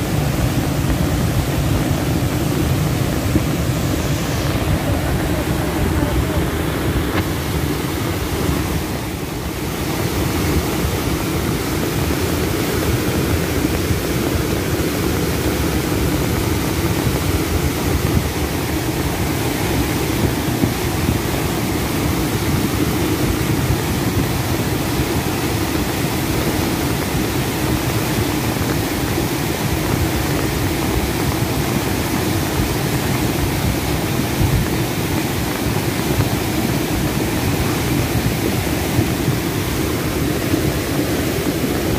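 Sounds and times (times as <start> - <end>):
river rushing: 0.0 - 41.9.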